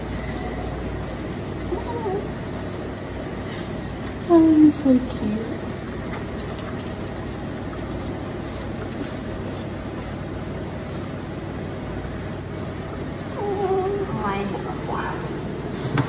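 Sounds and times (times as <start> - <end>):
water rushing from a hose: 0.0 - 15.3.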